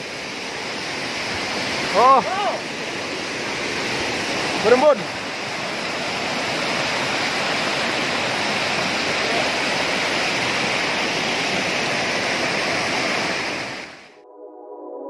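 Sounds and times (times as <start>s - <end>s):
waterfall rushing onto rocks: 0.0s - 14.2s.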